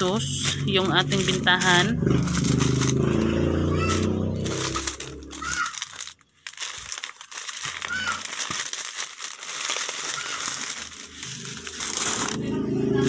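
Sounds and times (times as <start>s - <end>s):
plastic sachets crinkling: 0.0s - 13.0s.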